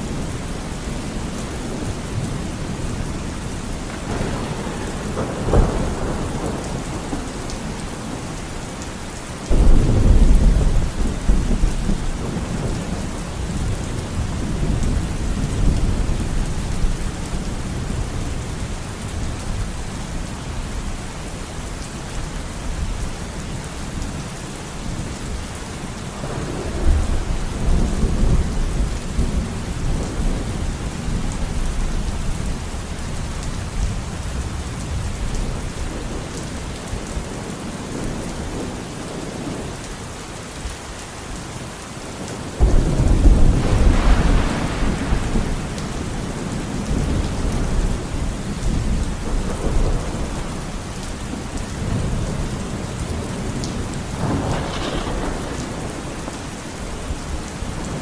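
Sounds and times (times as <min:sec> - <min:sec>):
thunder rumbling: 0:00.0 - 0:19.7, 0:26.1 - 0:39.7, 0:42.5 - 0:58.0
steady rain falling: 0:00.0 - 0:58.0.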